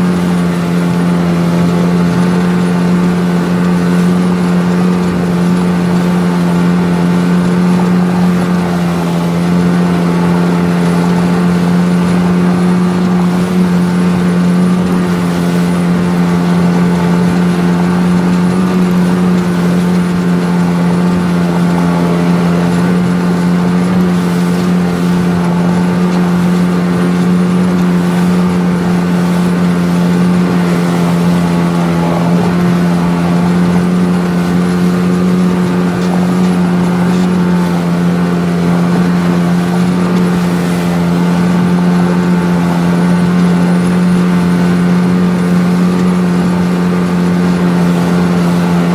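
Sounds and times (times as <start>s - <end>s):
outboard motor running: 0.0s - 48.9s.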